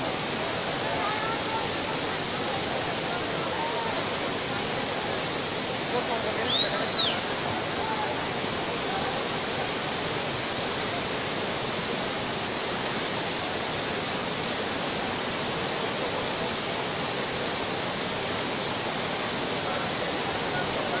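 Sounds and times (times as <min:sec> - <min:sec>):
river torrent rushing over rocks: 0:00.0 - 0:21.0.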